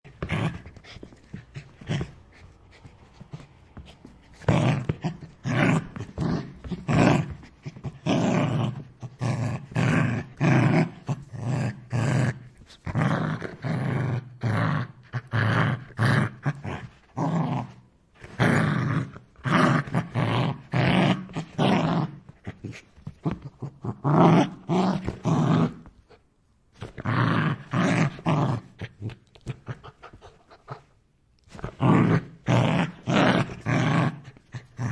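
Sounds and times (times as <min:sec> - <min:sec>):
dog snarling and growling: 0:00.1 - 0:25.9, 0:26.8 - 0:30.9, 0:31.5 - 0:34.9.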